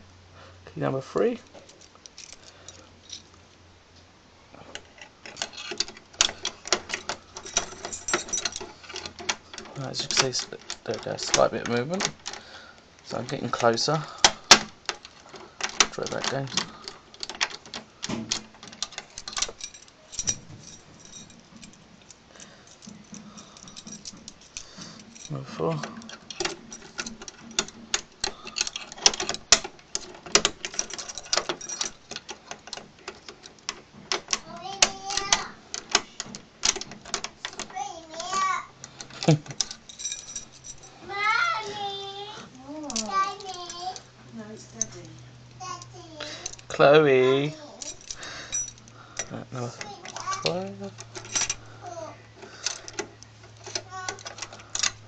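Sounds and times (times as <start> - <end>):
key clicking and rattling in lock: 4.7 - 40.9, 46.4 - 55.0.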